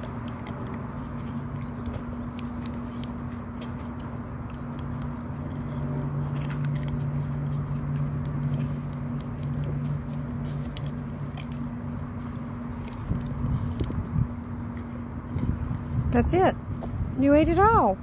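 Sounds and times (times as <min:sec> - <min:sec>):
dog licking and biting: 0:00.0 - 0:16.1
steady low hum: 0:00.0 - 0:18.0.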